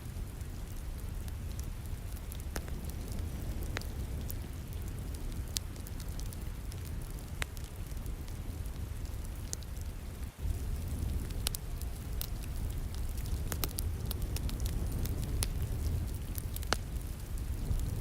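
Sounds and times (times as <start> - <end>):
rain hissing: 0.0 - 18.0
wood fire crackling: 0.0 - 18.0.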